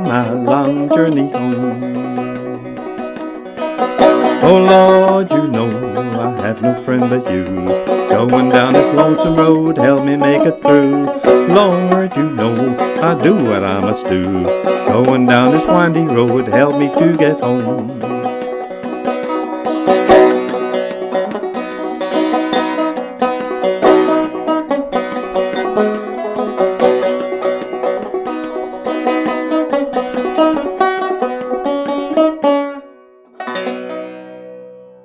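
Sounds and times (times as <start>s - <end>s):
banjo chord ringing: 0.0s - 35.0s
banjo plucked notes: 0.0s - 35.0s.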